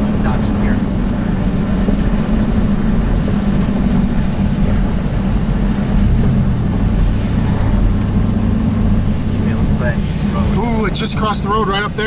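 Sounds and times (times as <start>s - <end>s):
deeper hum: 0.0s - 11.0s
car engine hum: 0.0s - 12.0s
road noise: 0.0s - 12.0s.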